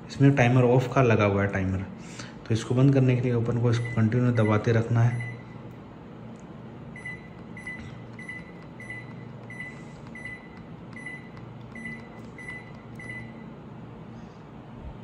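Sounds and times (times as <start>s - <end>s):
air conditioner beeping: 0.0s - 15.0s
low steady hum: 0.0s - 15.0s.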